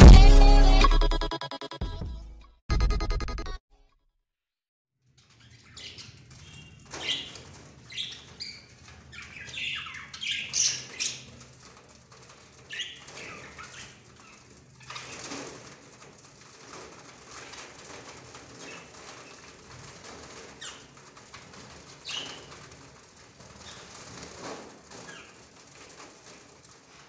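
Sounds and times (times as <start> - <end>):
wing flutters: 5.2 - 27.0.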